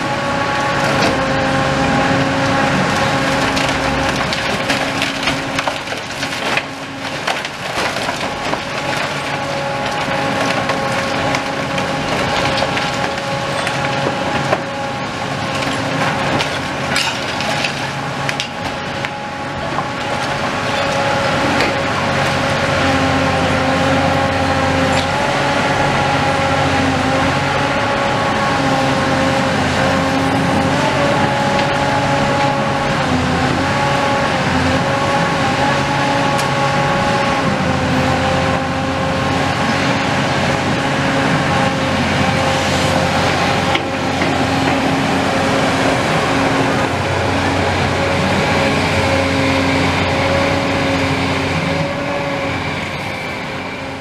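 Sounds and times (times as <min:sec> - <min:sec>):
excavator engine and hydraulics: 0:00.0 - 0:54.0
timber cracking and splintering: 0:00.6 - 0:52.4.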